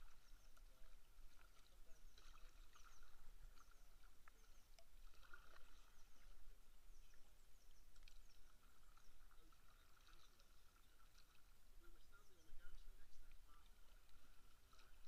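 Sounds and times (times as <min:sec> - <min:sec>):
kayak paddle dipping: 0:00.0 - 0:15.0
small splashes: 0:00.0 - 0:15.0
water lapping at hull: 0:00.0 - 0:15.0.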